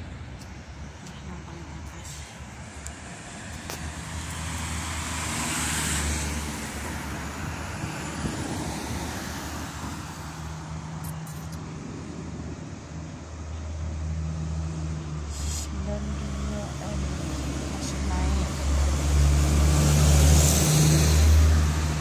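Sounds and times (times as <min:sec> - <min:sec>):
low engine hum: 0:00.0 - 0:22.0
vehicle passing by: 0:01.4 - 0:22.0.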